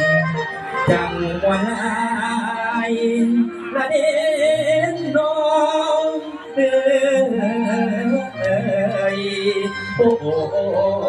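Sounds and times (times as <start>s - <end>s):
band playing: 0.0s - 11.0s
person singing wavering notes: 0.0s - 11.0s.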